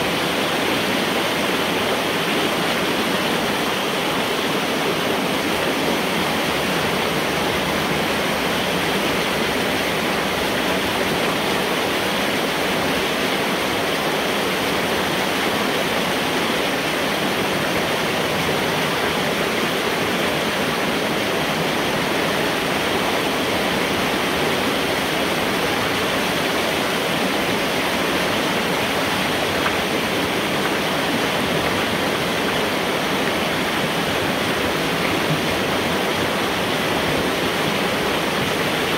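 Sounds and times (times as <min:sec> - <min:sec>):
water rushing through metal pipe: 0:00.0 - 0:38.9.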